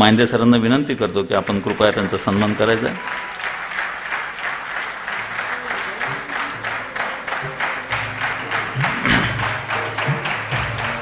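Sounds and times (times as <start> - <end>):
audience applauding: 0.0 - 11.0
background music: 0.0 - 11.0.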